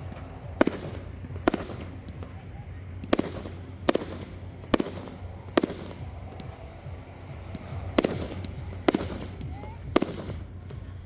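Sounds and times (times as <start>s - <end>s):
fireworks bangs echoing: 0.0s - 11.0s.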